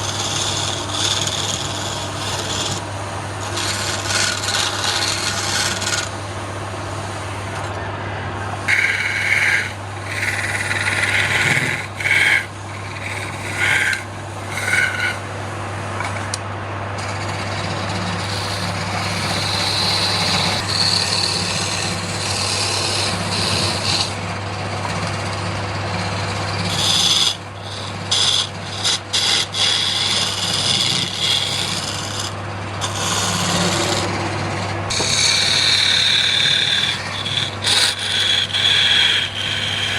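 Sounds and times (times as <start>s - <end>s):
turning tool scraping wood: 0.0s - 7.7s, 8.4s - 16.4s, 17.0s - 39.9s
wood lathe humming: 0.0s - 39.9s.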